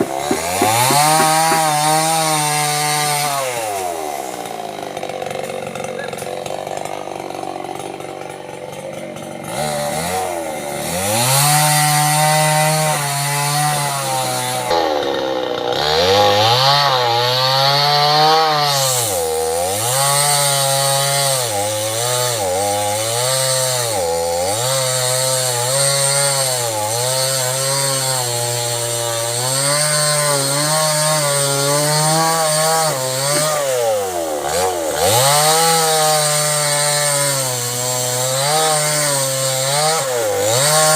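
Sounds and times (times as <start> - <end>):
chainsaw revving and cutting wood: 0.0 - 40.9.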